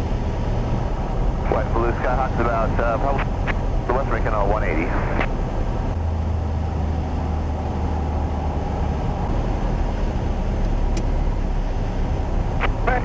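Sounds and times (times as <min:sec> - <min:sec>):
airplane engine and propeller drone: 0:00.0 - 0:13.0.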